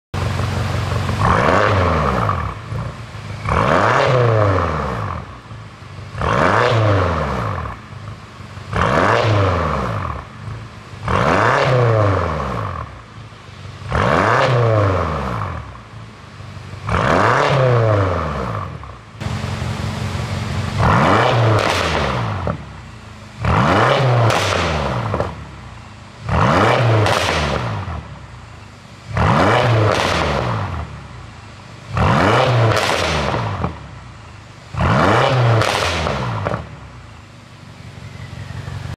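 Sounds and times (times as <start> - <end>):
car engine revving: 0.2 - 38.9
exhaust crackling: 0.2 - 38.9.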